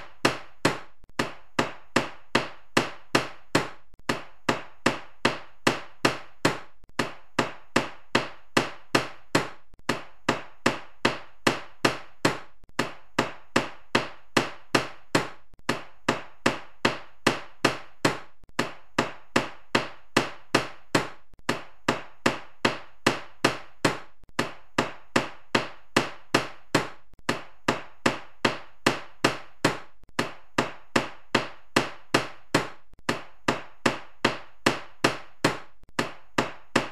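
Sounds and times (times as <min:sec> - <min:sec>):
hammer striking: 0:00.0 - 0:36.9.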